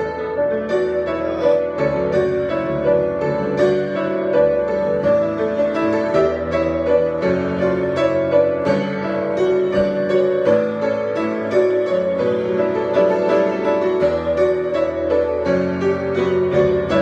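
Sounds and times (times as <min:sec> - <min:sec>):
piano improvisation: 0:00.0 - 0:17.0.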